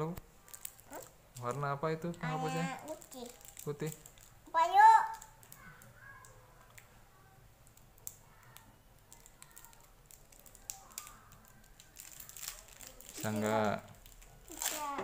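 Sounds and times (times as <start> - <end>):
plastic wrapper crinkling: 0.4 - 6.9, 7.6 - 15.0.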